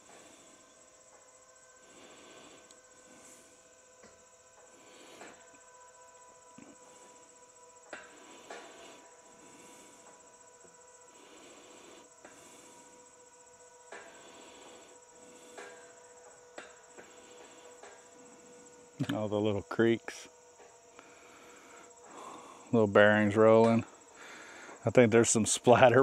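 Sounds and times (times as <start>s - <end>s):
high insect trill: 0.0s - 26.0s
steady hum: 0.0s - 26.0s.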